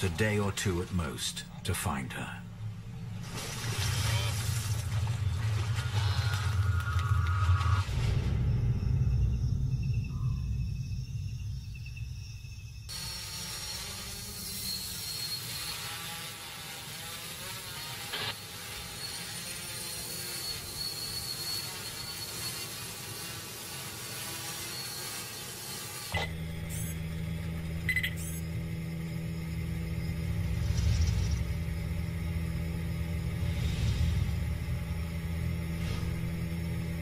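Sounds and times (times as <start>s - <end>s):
drone propellers humming: 0.0s - 24.3s, 25.0s - 37.0s.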